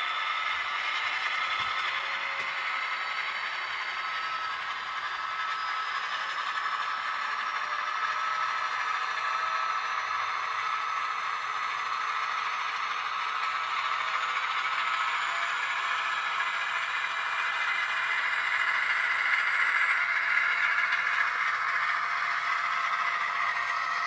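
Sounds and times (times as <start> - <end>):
faint whine rising in pitch: 0.0 - 24.0.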